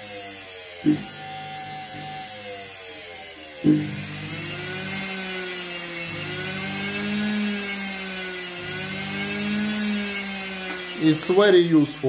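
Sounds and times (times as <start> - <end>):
washing machine motor whine: 0.0 - 12.0.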